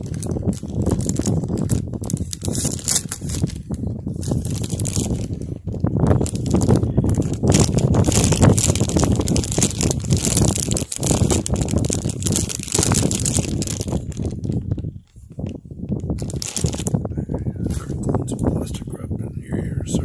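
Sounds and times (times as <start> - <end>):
fire crackling: 0.0 - 17.0
wind buffeting microphone: 0.0 - 20.0.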